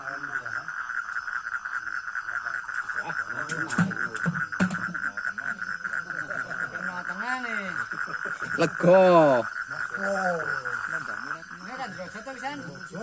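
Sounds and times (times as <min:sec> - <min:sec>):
chorus of frogs calling: 0:00.0 - 0:13.0.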